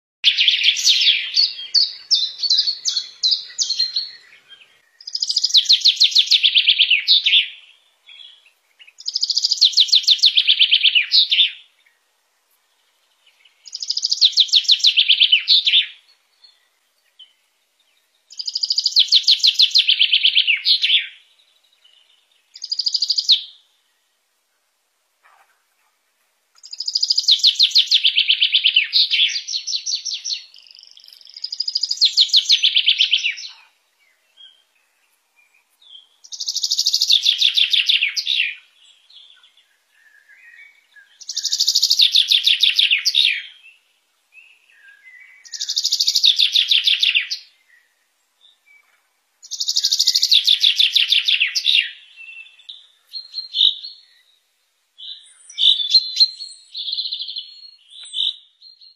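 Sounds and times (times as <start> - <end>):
finch song trills: 0.2 - 12.1, 12.8 - 24.0, 26.6 - 58.9
bird chirps: 0.2 - 24.1, 26.6 - 58.9.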